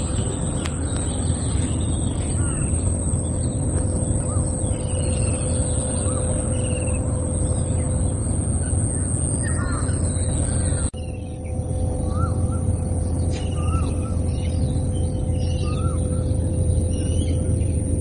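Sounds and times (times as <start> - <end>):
high-pitched whine: 0.0 - 18.0
small birds chirping: 0.0 - 18.0
steady low rumble: 0.0 - 18.0.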